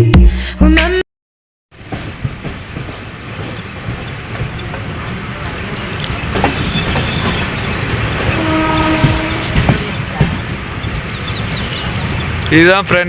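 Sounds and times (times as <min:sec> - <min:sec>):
train wheels rumbling on track: 0:01.7 - 0:13.0.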